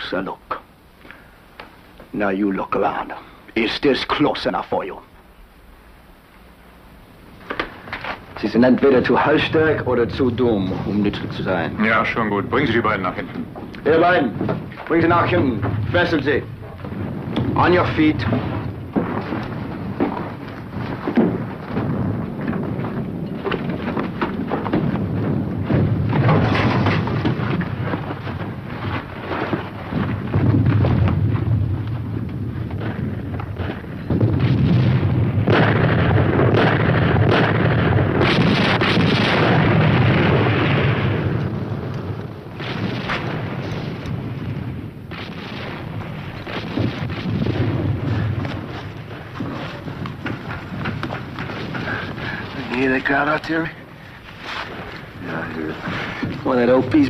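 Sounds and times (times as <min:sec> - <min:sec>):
distant artillery explosions: 0:07.2 - 0:57.0.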